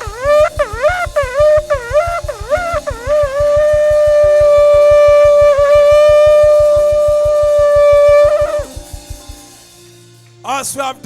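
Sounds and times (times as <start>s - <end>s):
shofar blowing: 0.0s - 9.6s
steady low beat: 0.0s - 10.2s.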